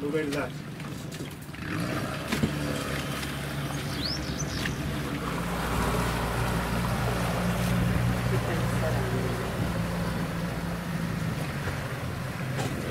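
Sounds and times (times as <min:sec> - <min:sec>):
boat motor humming: 0:00.0 - 0:12.9.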